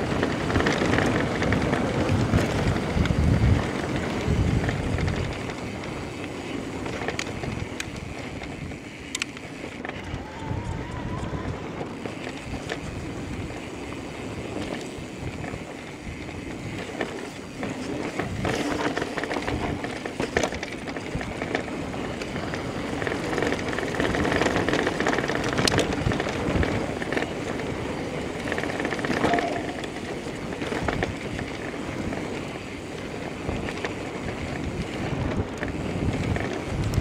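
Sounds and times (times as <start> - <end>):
bike rattling over bumps: 0.0 - 37.0
bike tyres rolling on dirt: 0.0 - 37.0.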